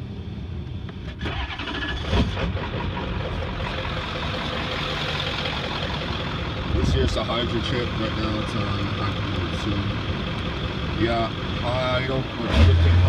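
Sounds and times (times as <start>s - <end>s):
diesel engine starting and running: 0.0s - 13.0s.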